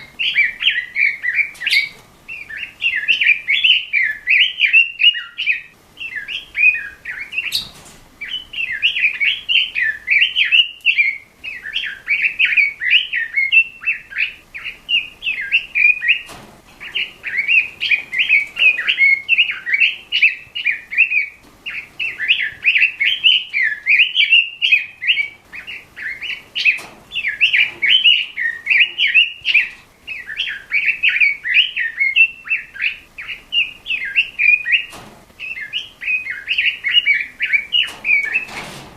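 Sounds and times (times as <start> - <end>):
bird warbling song: 0.0 - 38.7.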